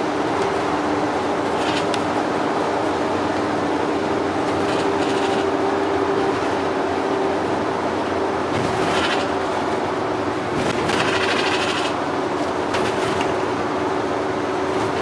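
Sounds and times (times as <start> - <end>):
bus running rumble: 0.0 - 15.0.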